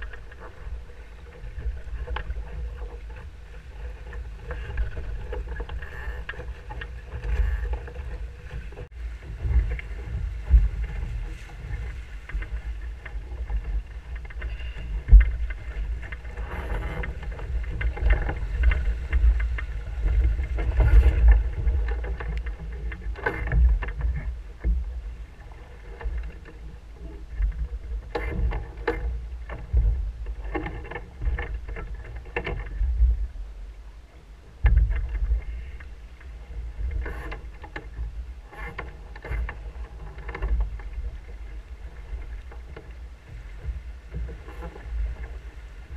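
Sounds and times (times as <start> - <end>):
boat knocks and clatter: 0.0 - 45.9
water rushing along hull: 0.0 - 45.9
wind buffeting microphone: 0.0 - 45.9.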